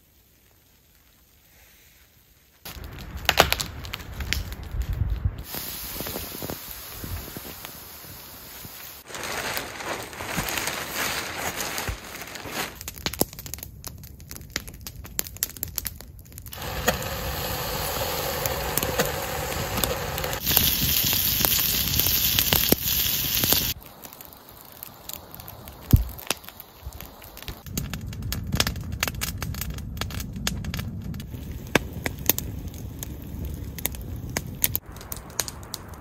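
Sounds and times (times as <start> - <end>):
campfire crackling: 0.0 - 36.0
fire burning in kettle chimney: 0.0 - 36.0
boughs being snapped: 2.7 - 7.7, 9.0 - 36.0.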